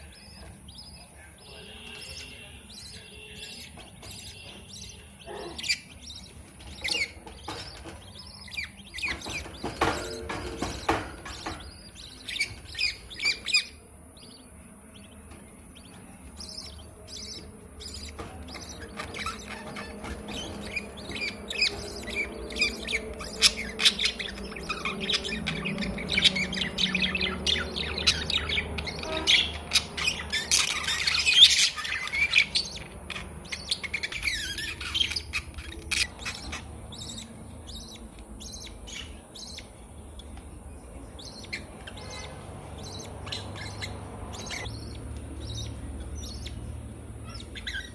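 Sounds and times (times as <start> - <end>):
budgerigars chirping: 0.0 - 47.9.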